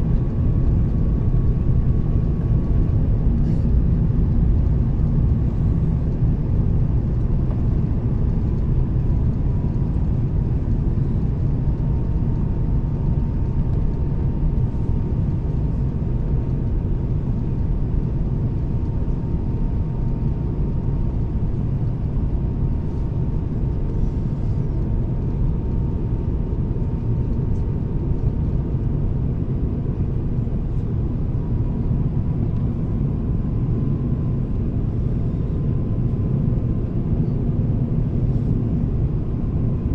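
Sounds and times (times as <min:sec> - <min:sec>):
engine and airflow rumble: 0:00.0 - 0:39.9
faint steady whine: 0:00.0 - 0:39.9.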